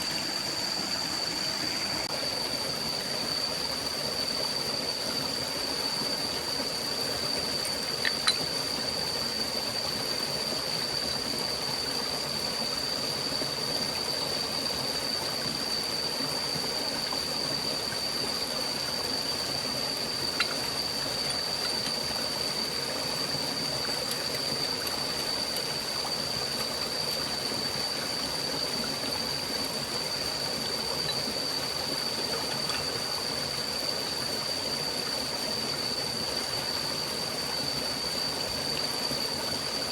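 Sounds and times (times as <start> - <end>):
stream flowing: 0.0 - 39.9
thin high-pitched whine: 0.0 - 39.9.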